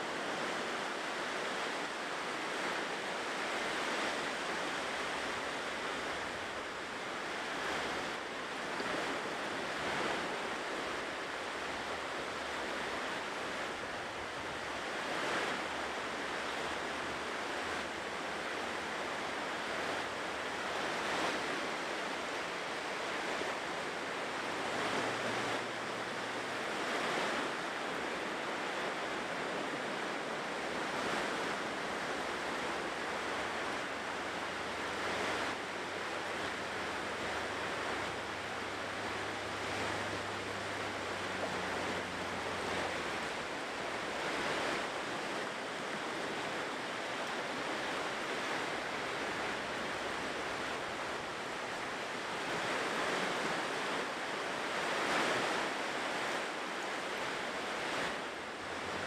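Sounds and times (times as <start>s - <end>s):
ocean surf breaking on shore: 0.0s - 59.0s.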